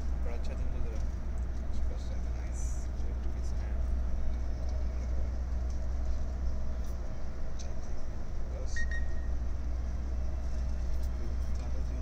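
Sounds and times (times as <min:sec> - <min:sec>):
bus engine rumble from inside: 0:00.0 - 0:12.0
road noise hiss: 0:00.0 - 0:12.0.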